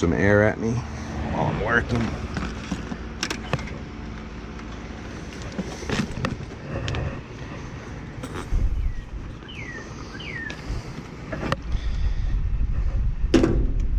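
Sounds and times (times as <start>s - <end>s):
low rumble: 0.7s - 13.9s.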